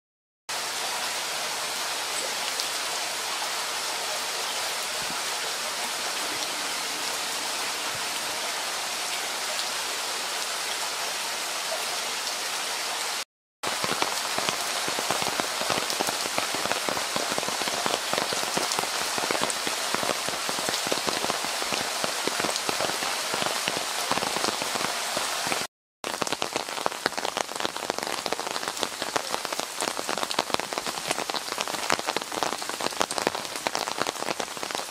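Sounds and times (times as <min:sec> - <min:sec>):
steady rain falling: 0:00.5 - 0:34.9
raindrops pattering: 0:02.0 - 0:10.9, 0:13.6 - 0:34.9.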